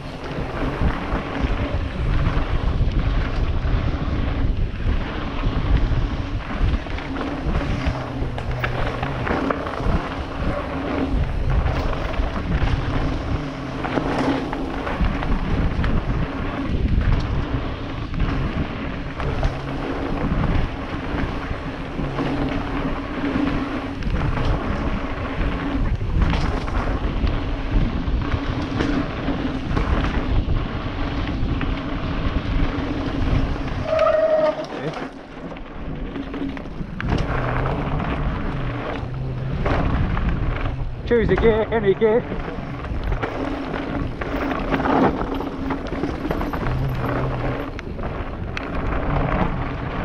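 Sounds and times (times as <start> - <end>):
bike rattling and knocking: 0.0 - 50.0
tyres on dirt: 0.0 - 50.0
wind rushing over microphone: 0.0 - 50.0.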